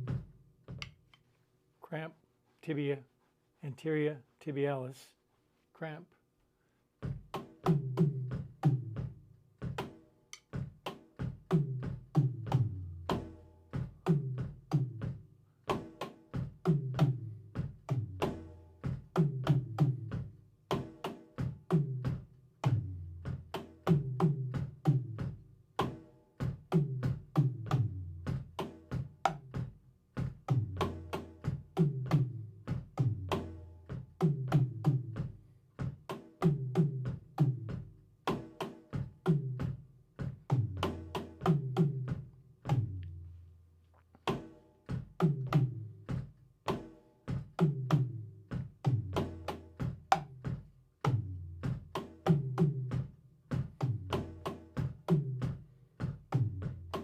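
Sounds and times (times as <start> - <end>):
acoustic drum kit groove: 0.0 - 1.3, 7.0 - 43.4, 44.1 - 57.0.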